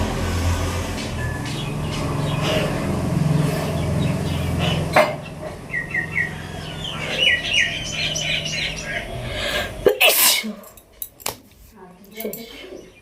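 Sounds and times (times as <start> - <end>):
steady low hum: 0.0 - 12.2
small birds chirping: 0.6 - 10.1, 11.7 - 13.0.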